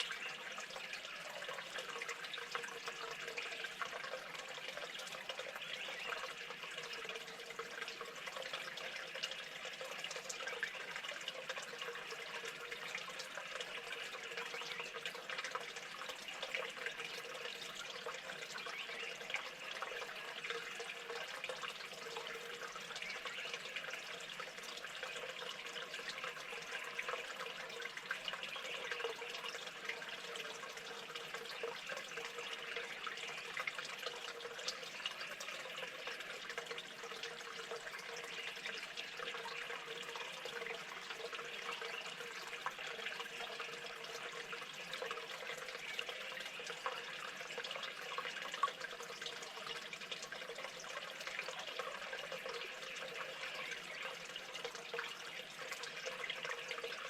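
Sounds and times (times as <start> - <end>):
faint clicks and drips: 0.0 - 57.0
running water trickling: 0.0 - 57.0.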